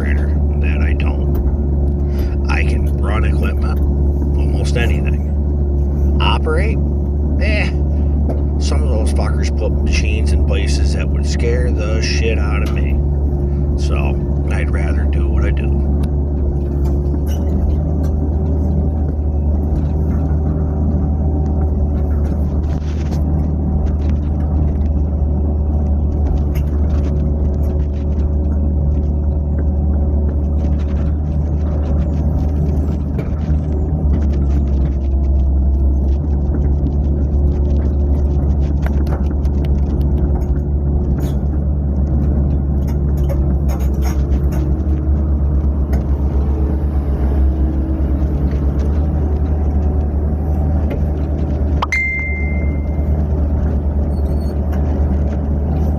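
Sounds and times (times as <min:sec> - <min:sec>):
diesel engine running: 0:00.0 - 0:55.9
light clicks and clanks: 0:09.9 - 0:55.9.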